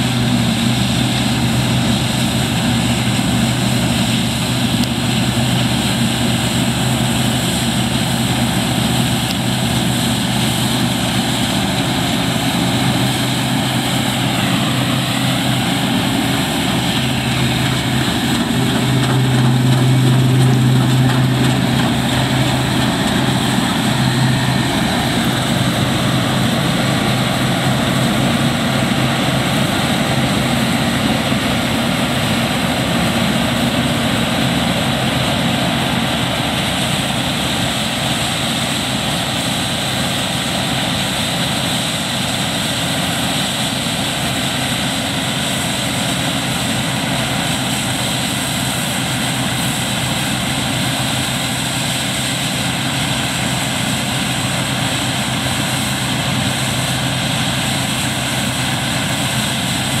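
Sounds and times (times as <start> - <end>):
combine harvester engine droning: 0.0 - 60.0.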